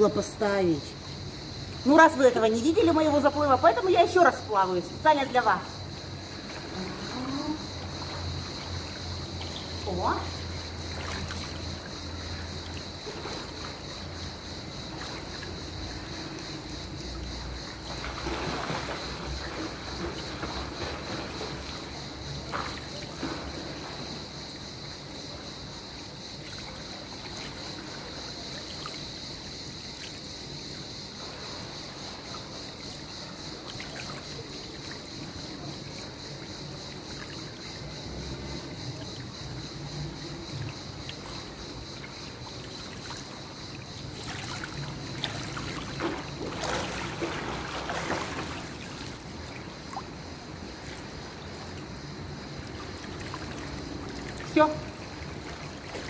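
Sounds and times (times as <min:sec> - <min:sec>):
pool water splashing: 0:00.0 - 0:56.0
steady high-pitched hiss: 0:00.0 - 0:56.0.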